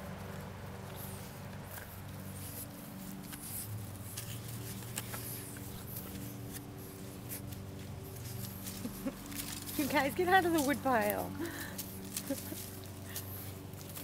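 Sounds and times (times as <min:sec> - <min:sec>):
dry leaves crackling and rustling: 0:00.0 - 0:14.0
steady low hum: 0:00.0 - 0:14.0.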